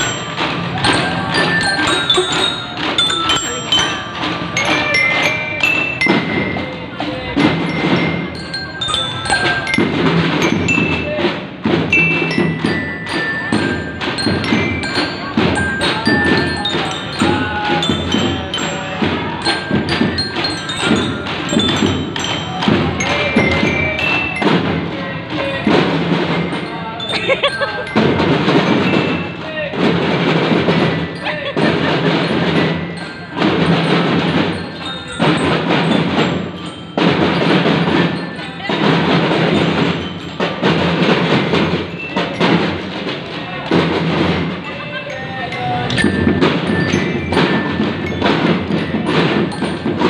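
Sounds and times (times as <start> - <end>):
glockenspiel melody: 0.0 - 50.0
snare drums steady rhythm: 0.0 - 50.0.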